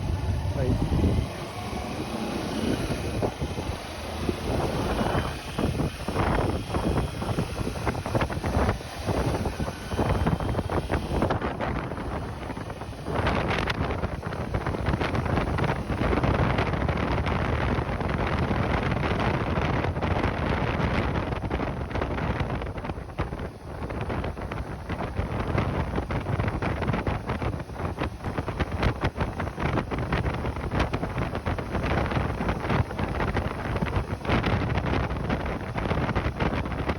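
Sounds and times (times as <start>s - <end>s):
motorcycle engine rumble: 0.0s - 36.9s
wind buffeting microphone: 0.0s - 36.9s.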